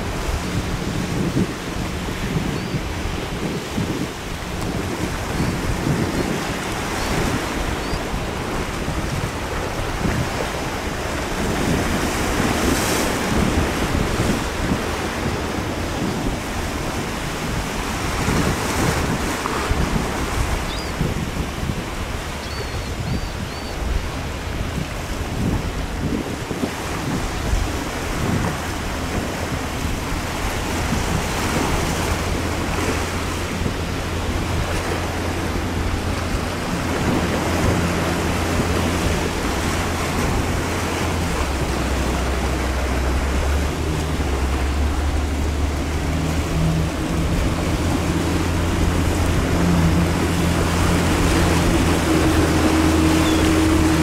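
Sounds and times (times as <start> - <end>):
breaking surf: 0.0 - 23.1, 23.8 - 54.0
boat engine drone: 0.0 - 54.0
wind buffeting microphone: 0.0 - 54.0.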